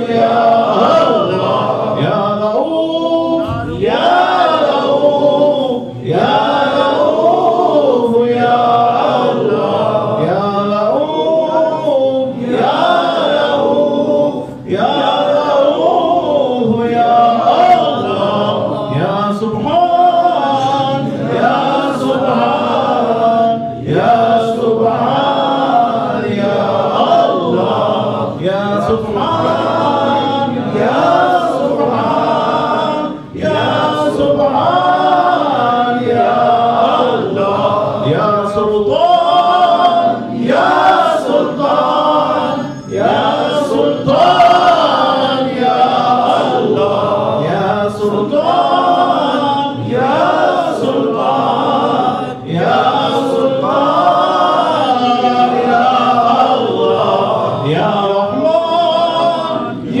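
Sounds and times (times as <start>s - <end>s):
men chanting together: 0.0s - 60.0s.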